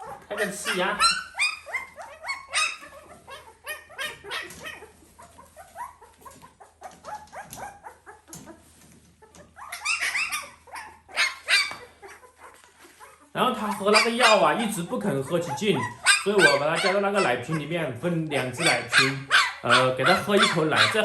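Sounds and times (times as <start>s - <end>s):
puppy squealing and yelping: 0.0s - 21.0s.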